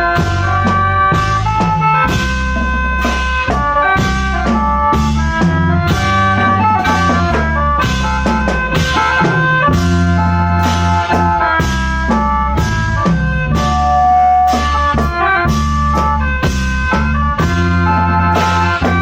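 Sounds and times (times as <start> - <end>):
bass: 0.0 - 19.0
free-reed mouth organ chords: 0.0 - 19.0
steady drum beat: 0.0 - 19.0.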